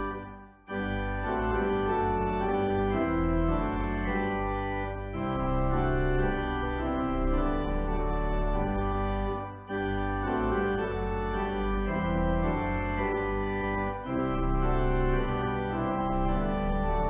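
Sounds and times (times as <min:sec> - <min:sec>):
organ playing held chords: 0:00.0 - 0:17.0.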